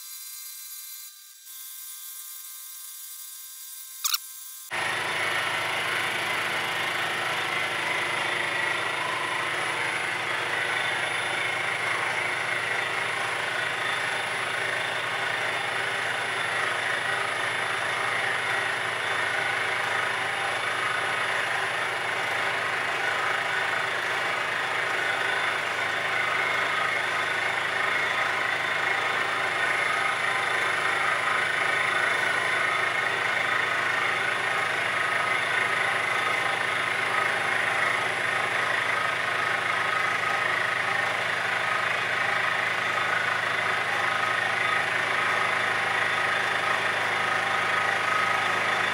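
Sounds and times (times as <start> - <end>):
end mill cutting metal: 4.0 - 48.9.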